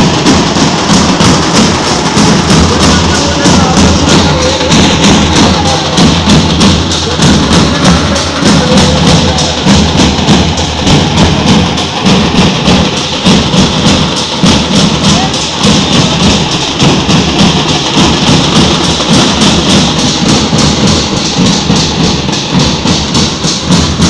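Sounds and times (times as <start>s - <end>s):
loud procession percussion music: 0.0s - 24.0s.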